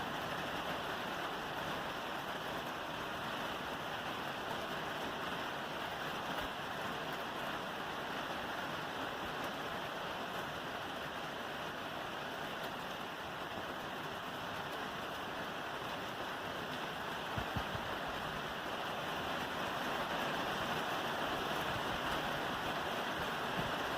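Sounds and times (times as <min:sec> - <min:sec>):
rain on a roof: 0:00.0 - 0:23.9.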